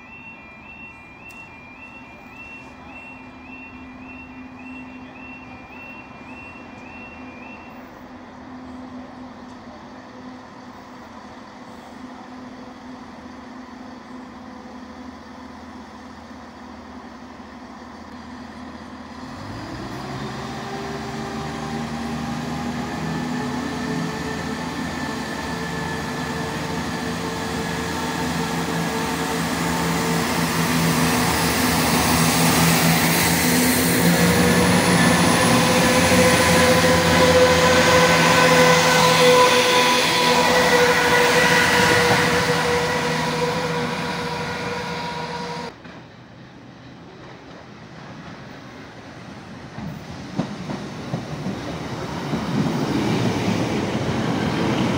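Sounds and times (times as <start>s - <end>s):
diesel train engine accelerating: 0.0s - 54.9s.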